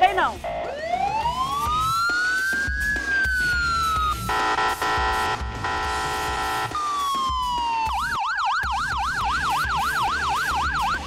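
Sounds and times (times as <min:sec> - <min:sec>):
electronic police siren yelping: 0:00.4 - 0:11.0.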